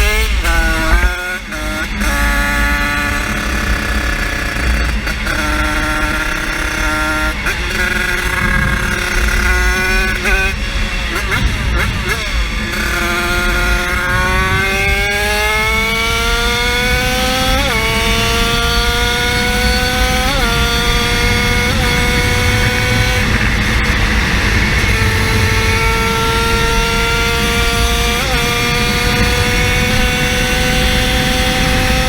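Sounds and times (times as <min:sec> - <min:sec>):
small engine at full throttle: 0:00.0 - 0:32.0.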